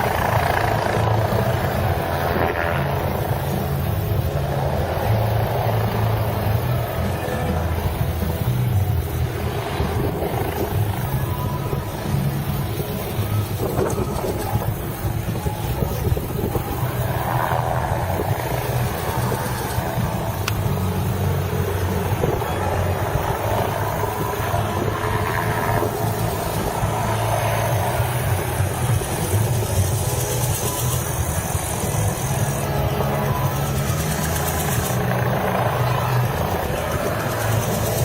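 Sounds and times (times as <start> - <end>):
helicopter rotor and engine: 0.0 - 38.0.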